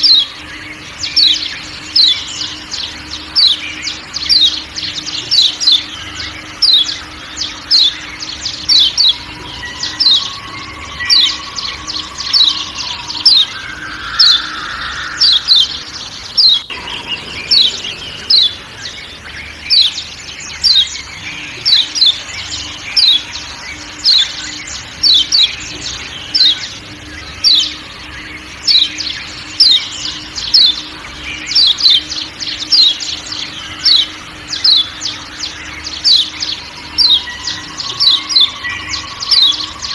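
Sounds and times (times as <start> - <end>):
bird sharp high calls: 0.0 - 39.9
faint forest background: 0.0 - 39.9.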